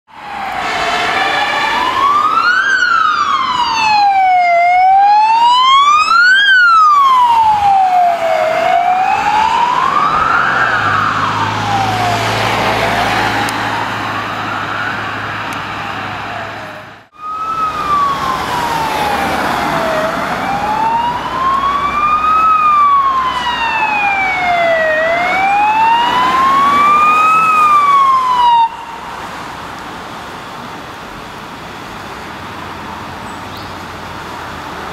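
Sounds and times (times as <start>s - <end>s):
wailing siren: 0.1s - 29.5s
lower wailing siren: 0.1s - 29.7s.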